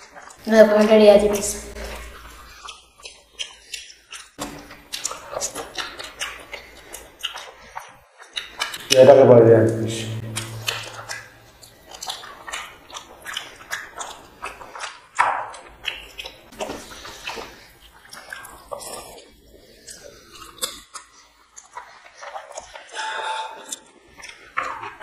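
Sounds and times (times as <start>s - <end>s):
chewing and mouth smacks: 0.0s - 0.4s, 1.3s - 9.0s, 10.2s - 25.0s.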